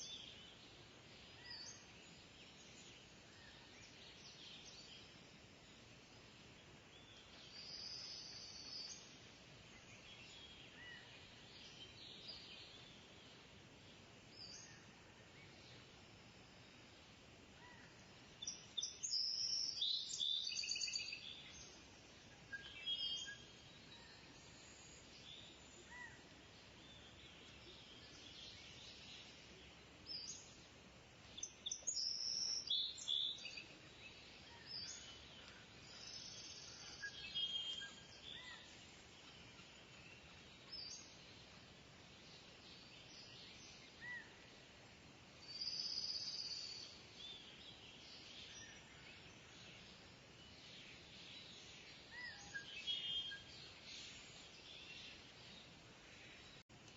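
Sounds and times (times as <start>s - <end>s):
steady background hiss: 0.0s - 56.9s.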